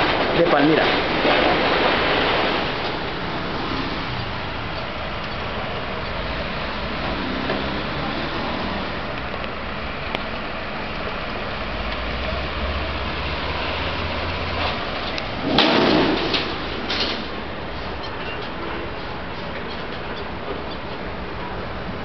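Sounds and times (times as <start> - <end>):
loud rush of noise: 0.0 - 19.6
vehicle engine noise: 0.0 - 22.0.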